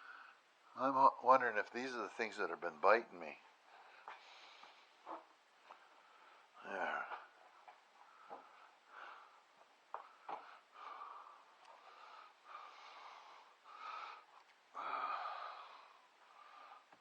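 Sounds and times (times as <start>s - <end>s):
soft breathing: 0.0s - 0.8s, 3.4s - 17.0s.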